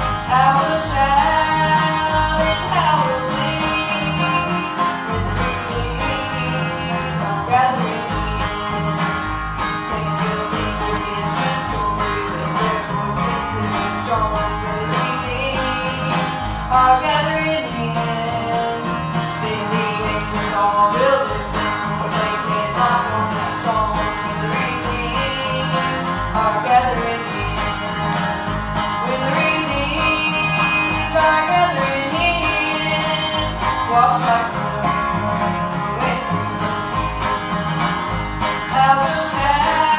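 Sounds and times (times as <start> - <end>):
gospel band with guitar and banjo: 0.0 - 39.9.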